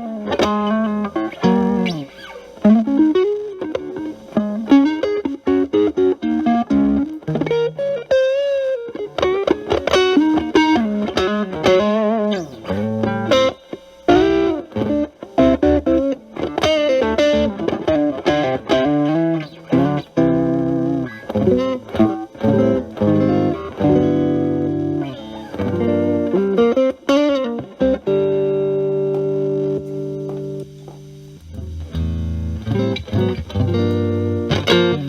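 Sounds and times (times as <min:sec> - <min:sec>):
overdriven electric guitar lead: 0:00.0 - 0:35.0.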